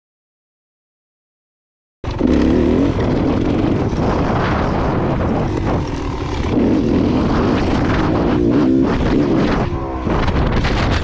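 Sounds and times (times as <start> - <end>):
dirt bike engine revving: 2.0 - 11.0.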